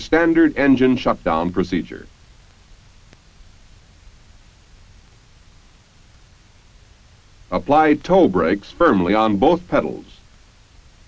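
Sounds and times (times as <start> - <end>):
faint film soundtrack hiss: 0.0 - 11.0.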